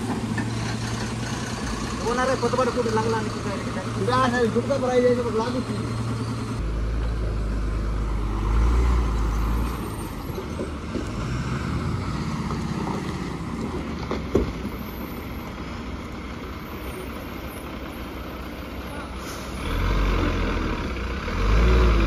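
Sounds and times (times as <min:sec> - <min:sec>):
lorry diesel engine rumbling: 0:00.0 - 0:22.0.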